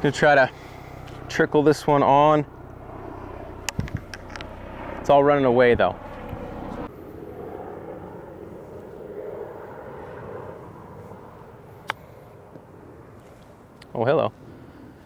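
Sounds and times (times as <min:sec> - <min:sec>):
distant engine drone: 0:00.0 - 0:15.0.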